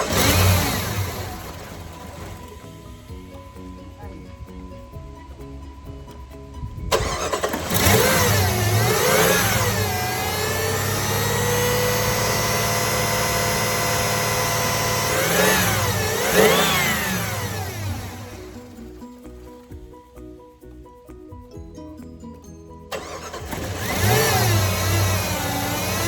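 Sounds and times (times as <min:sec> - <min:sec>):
car engine revving: 0:00.0 - 0:05.4, 0:06.8 - 0:19.6, 0:22.9 - 0:26.0.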